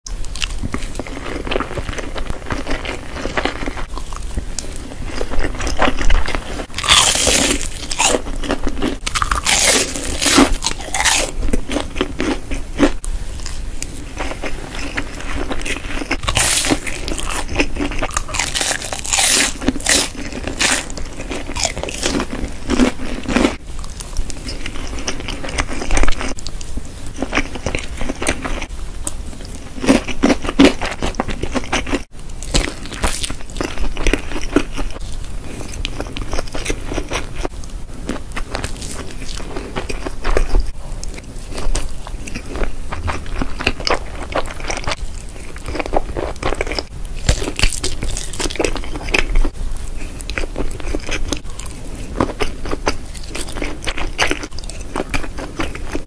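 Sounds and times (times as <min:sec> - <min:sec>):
crunching bites of fried food: 0:00.3 - 0:26.5, 0:27.1 - 0:56.0
slurping and chewing spaghetti: 0:00.4 - 0:26.5, 0:27.1 - 0:56.0.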